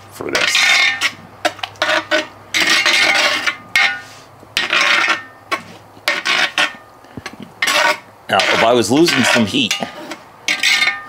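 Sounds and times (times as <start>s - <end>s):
metal spoon scraping a pot: 0.3s - 6.9s, 7.6s - 11.0s.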